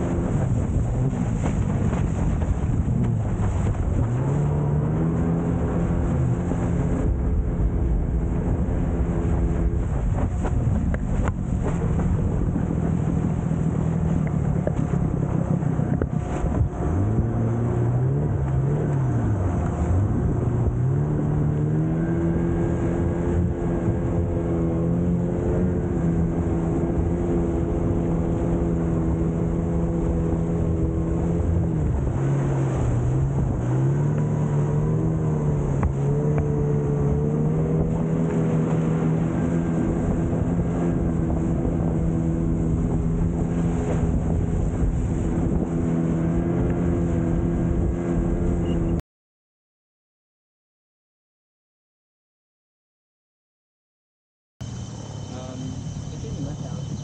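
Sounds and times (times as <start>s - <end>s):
water spraying off hull: 0.0s - 48.4s
outboard motor running: 0.0s - 49.0s, 54.6s - 57.0s.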